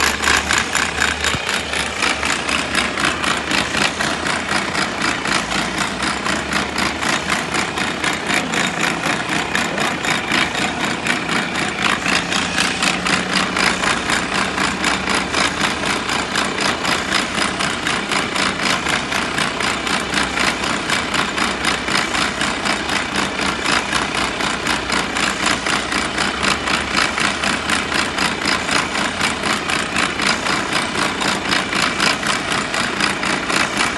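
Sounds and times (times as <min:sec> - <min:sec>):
truck idling with rhythmic pulsing: 0:00.0 - 0:33.9.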